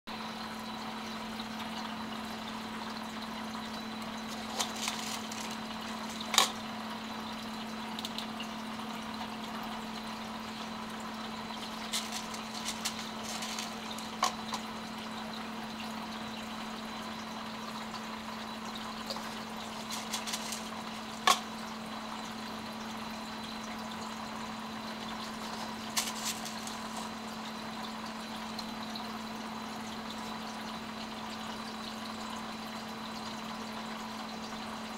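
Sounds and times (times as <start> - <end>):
aquarium filter humming: 0.1 - 34.9
falling water: 1.6 - 32.3.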